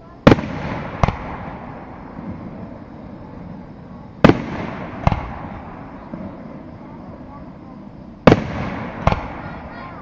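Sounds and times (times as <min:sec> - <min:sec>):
fireworks booming: 0:00.0 - 0:10.0.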